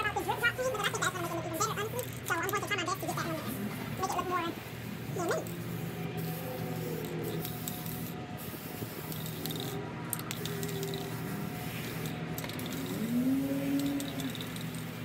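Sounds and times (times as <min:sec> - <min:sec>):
spray paint can hissing: 0:00.1 - 0:15.0.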